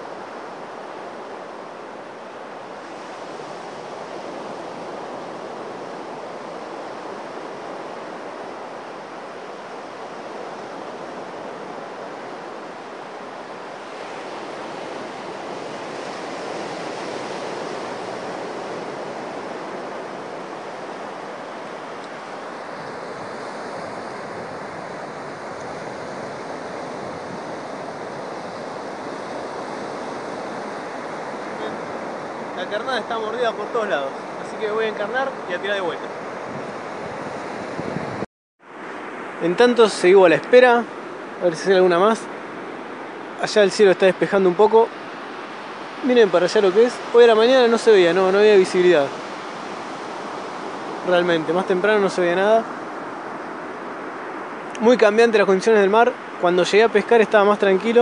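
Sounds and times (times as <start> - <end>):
surf breaking on a beach: 0.0 - 58.0.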